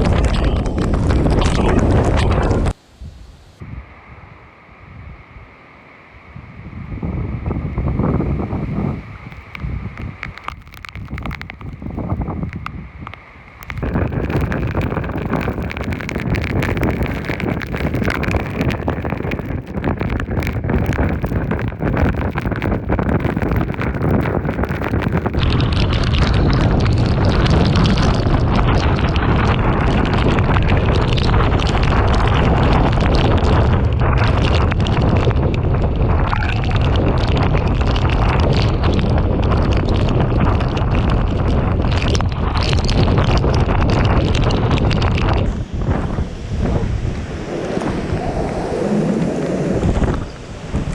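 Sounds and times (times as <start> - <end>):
strong wind buffeting microphone: 0.0 - 5.5, 6.3 - 50.9
rain: 0.0 - 50.9.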